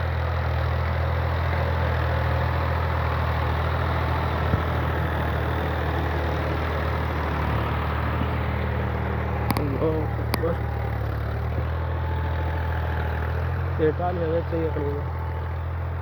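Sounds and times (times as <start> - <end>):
engine low drone: 0.0 - 16.0.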